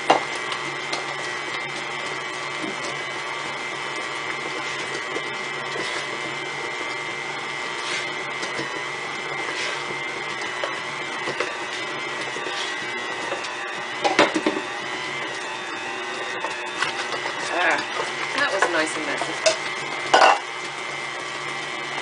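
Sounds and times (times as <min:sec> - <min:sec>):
stand mixer motor whine: 0:00.0 - 0:22.0.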